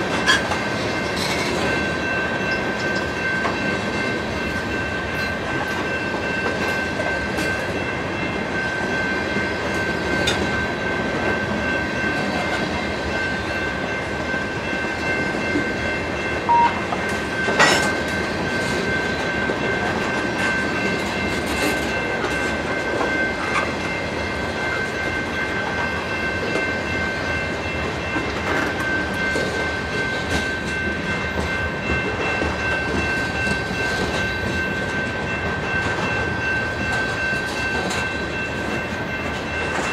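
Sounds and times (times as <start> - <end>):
train wheels rumbling and clicking: 0.0 - 39.9
high-pitched ringing tone: 1.0 - 39.9.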